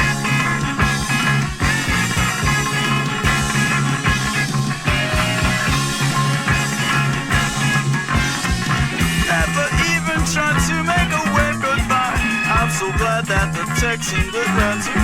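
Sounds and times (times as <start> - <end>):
rock band instrumental: 0.0 - 15.0.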